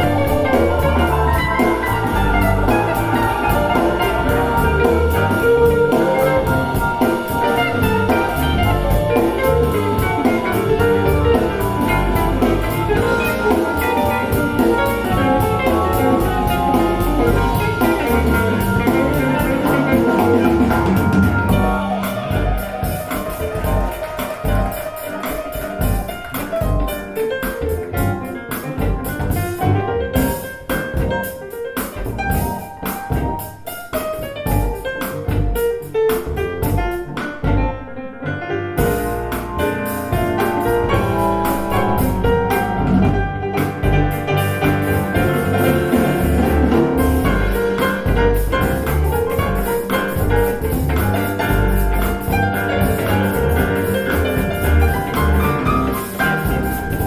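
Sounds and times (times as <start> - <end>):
instrumental music with piano and drums: 0.0 - 57.0.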